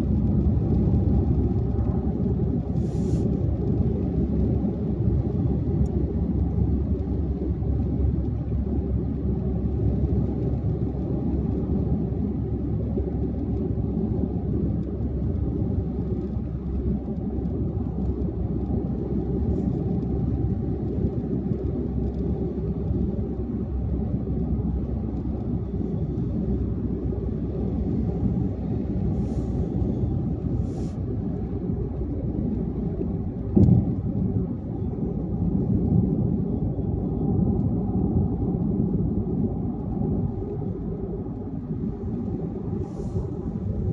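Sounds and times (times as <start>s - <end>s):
car engine drone: 0.0s - 43.9s
road and tyre rumble: 0.0s - 43.9s.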